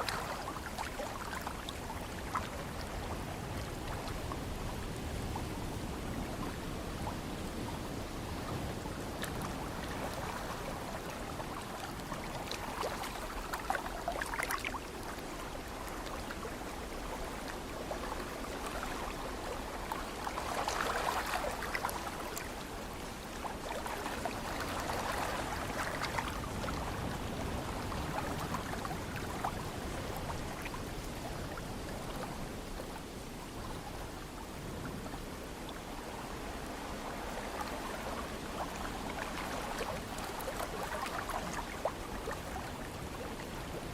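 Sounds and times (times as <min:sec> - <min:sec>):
ocean waves washing in: 0:00.0 - 0:43.9.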